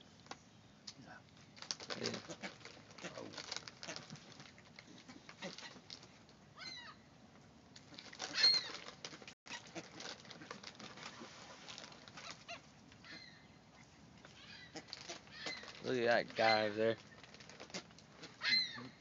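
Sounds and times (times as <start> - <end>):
bills pecking on sandy ground: 0.0 - 19.0.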